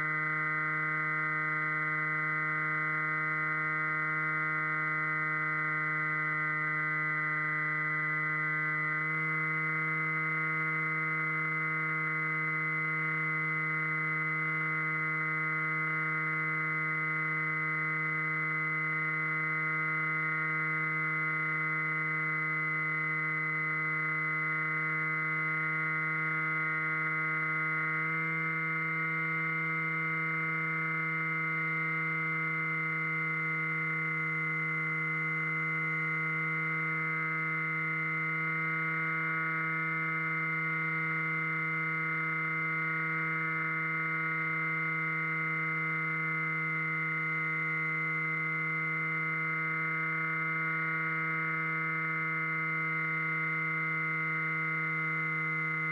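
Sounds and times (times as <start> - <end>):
electric motor and propeller whine: 0.0 - 55.9.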